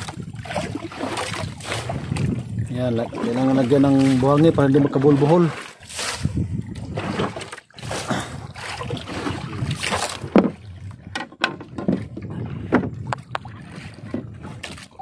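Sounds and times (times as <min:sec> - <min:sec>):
water and boat rumble: 0:00.0 - 0:15.0.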